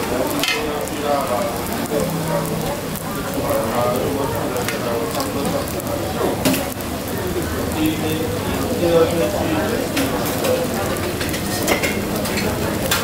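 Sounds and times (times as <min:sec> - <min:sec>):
food sizzling in hot oil: 0:00.0 - 0:13.0
people talking: 0:00.0 - 0:13.0.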